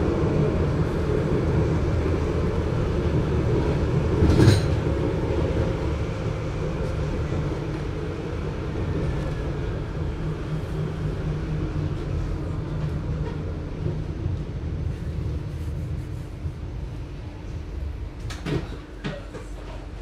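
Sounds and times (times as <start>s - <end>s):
tram running with muffled rumble: 0.0s - 20.0s.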